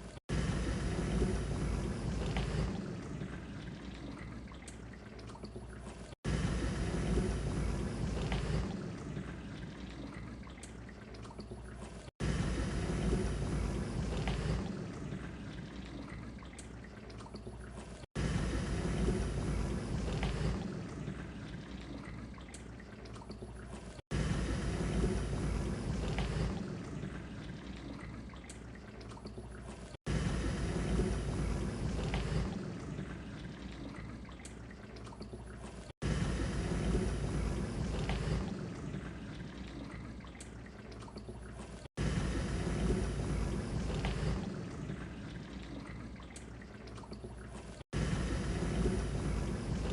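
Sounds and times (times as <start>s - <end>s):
dishwasher water spraying and sloshing: 0.0s - 49.9s.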